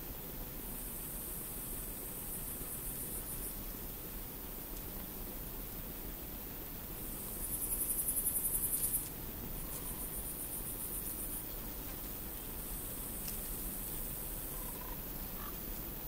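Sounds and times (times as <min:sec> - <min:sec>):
bush cricket stridulating: 0:00.0 - 0:16.0
high insect hiss: 0:00.0 - 0:16.0.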